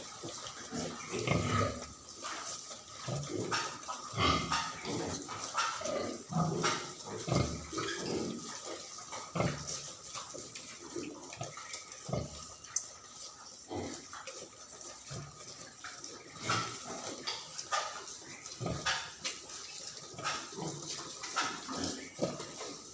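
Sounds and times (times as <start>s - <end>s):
pigs grunting: 0.0s - 12.6s, 13.4s - 22.9s.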